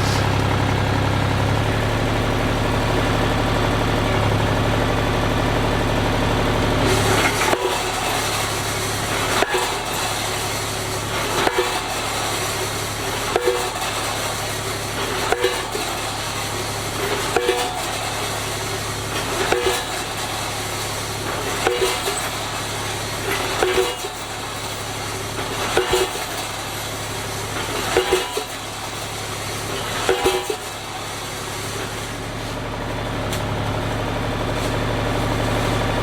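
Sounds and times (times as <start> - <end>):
post driver engine running: 0.0 - 36.0.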